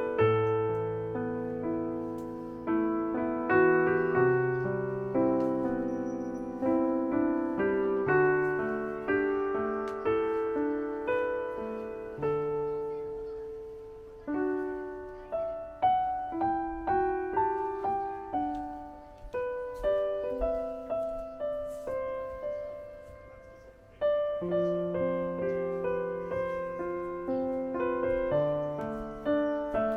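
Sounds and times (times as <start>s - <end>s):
slow piano music: 0.0s - 29.9s.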